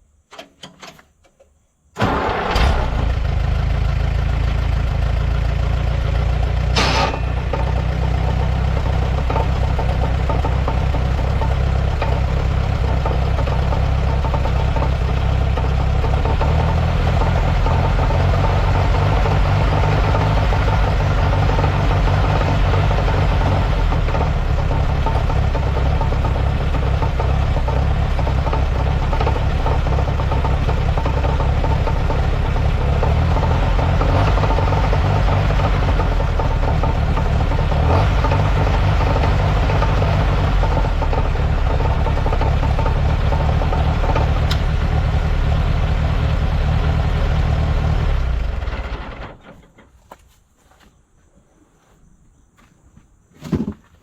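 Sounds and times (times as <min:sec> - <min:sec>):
tractor engine starting and running: 0:00.0 - 0:50.8.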